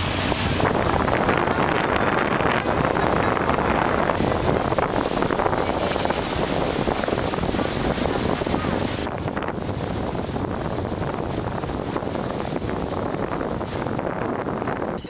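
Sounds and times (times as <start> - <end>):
boat hull rushing through water: 0.0 - 15.0
wind buffeting microphone: 0.0 - 15.0.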